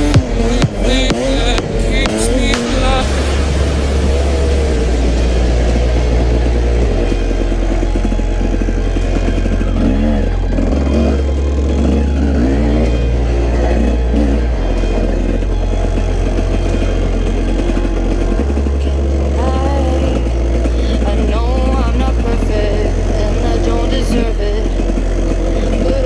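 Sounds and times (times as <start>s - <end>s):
dirt bike engine revving: 0.0s - 26.0s
music with deep bass line: 0.0s - 26.0s.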